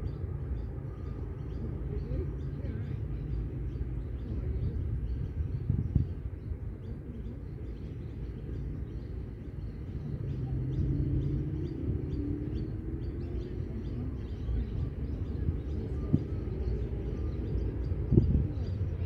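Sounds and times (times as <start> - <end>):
passing engine hum: 0.0 - 19.0
small birds chirping: 0.0 - 19.0.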